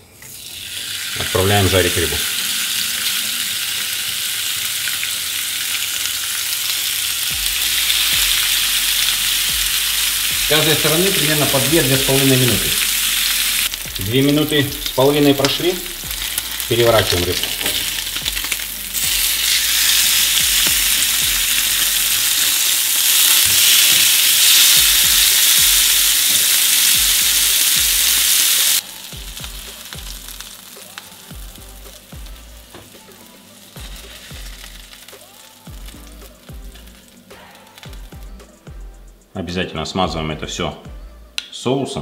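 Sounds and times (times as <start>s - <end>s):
fish sizzling in a grill pan: 0.3s - 38.3s.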